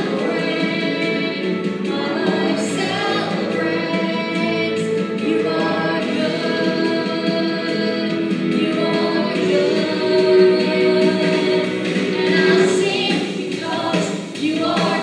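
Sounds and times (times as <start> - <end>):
music: 0.0 - 15.0
voices singing sustained notes: 0.0 - 15.0.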